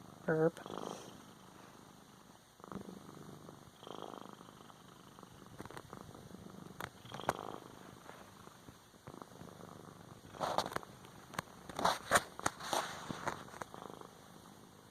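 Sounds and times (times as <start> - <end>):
cat purring: 0.0 - 14.9.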